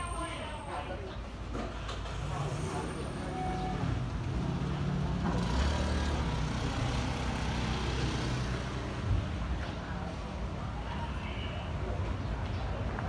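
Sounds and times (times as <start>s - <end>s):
vehicle engine rumble: 1.0s - 13.0s.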